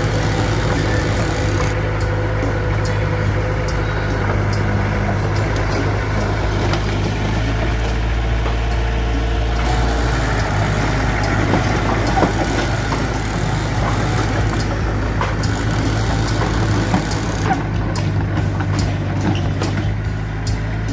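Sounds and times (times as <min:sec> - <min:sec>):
bulldozer diesel engine running: 0:00.0 - 0:20.9.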